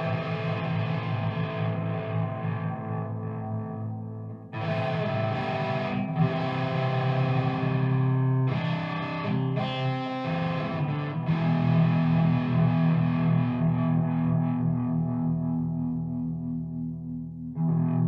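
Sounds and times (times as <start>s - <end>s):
bass: 0.0s - 18.0s
distorted electric guitar chords: 0.0s - 18.0s.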